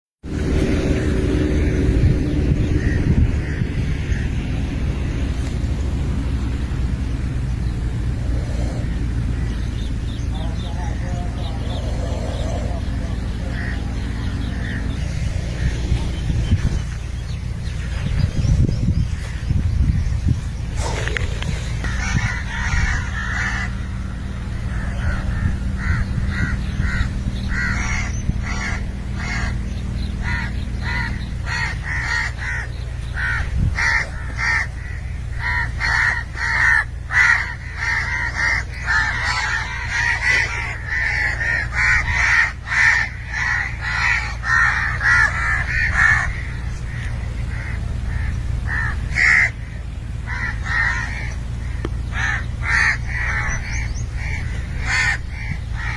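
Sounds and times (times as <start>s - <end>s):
birds calling: 0.2s - 55.9s
steady low rumble: 0.2s - 55.9s.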